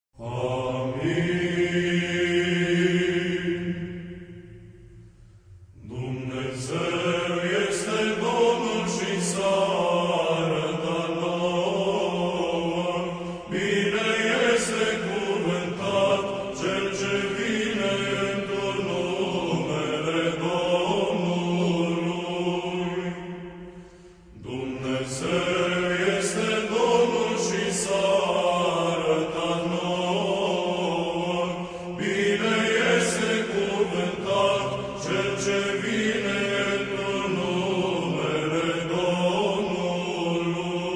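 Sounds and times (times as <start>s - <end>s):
voices chanting melody: 0.2s - 5.2s, 5.8s - 40.9s.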